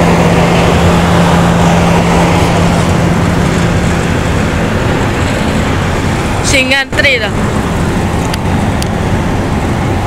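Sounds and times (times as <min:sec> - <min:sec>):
ferry engines droning: 0:00.0 - 0:10.0.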